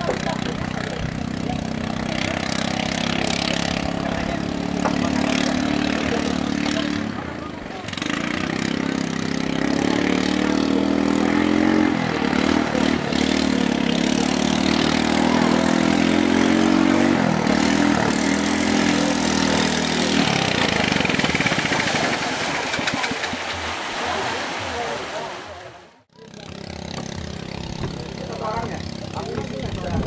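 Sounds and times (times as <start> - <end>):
rushing water wash: 0.0 - 26.0
boat engine droning: 0.0 - 30.0.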